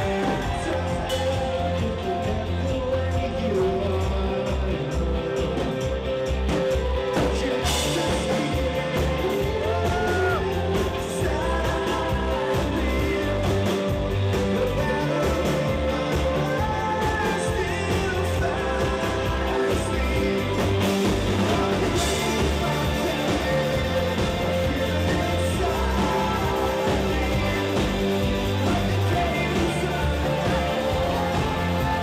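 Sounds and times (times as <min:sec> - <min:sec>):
rock song with singing: 0:00.0 - 0:32.0.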